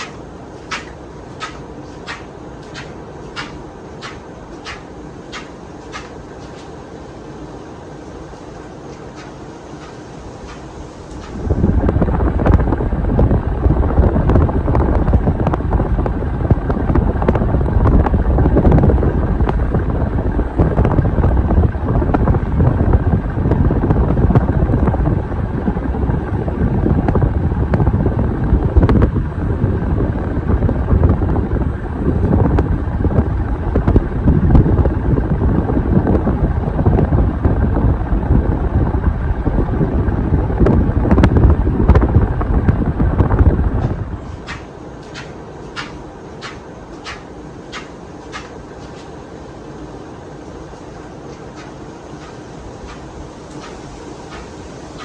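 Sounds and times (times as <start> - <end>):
ceiling fan air buffeting microphone: 0.0 - 55.0.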